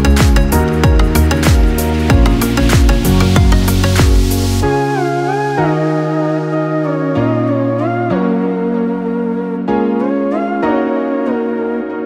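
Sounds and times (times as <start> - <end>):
slow melodic background music: 0.0 - 12.0.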